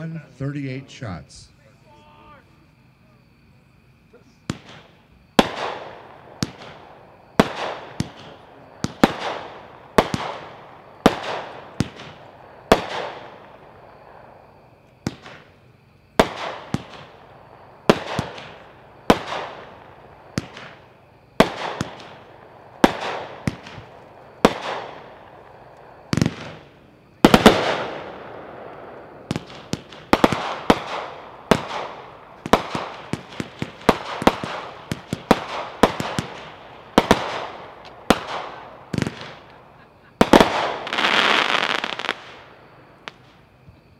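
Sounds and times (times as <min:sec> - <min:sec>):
firework reports with echo: 0:00.0 - 0:43.9.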